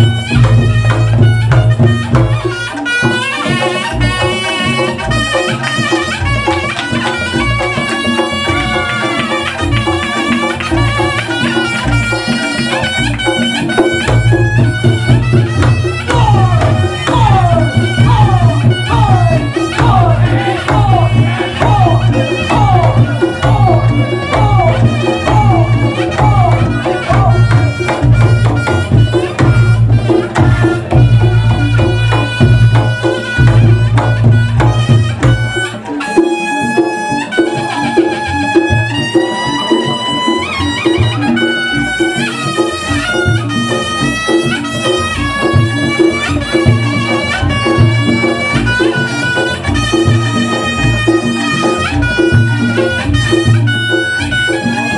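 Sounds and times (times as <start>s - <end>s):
hand drum strokes: 0.0s - 54.9s
reedy wind instrument melody: 0.0s - 54.9s.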